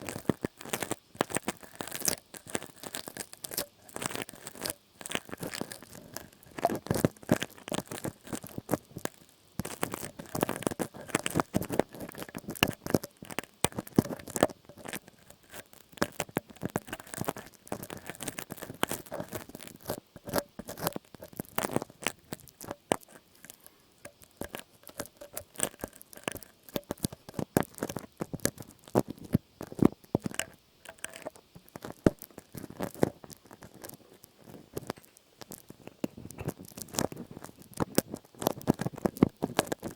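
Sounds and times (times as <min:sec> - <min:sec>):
crackling and scratching at microphone: 0:00.0 - 0:39.9.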